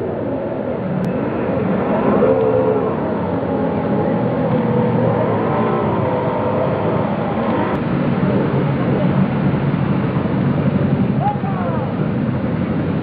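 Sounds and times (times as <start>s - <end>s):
distant boat engines droning: 0.0s - 13.0s.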